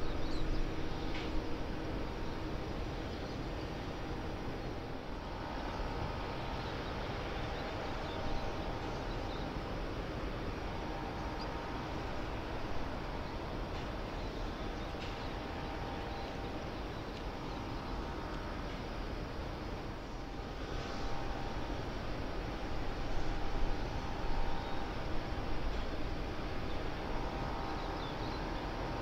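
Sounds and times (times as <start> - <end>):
distant port machinery rumble: 0.0 - 29.0
faint steady hum: 0.0 - 29.0.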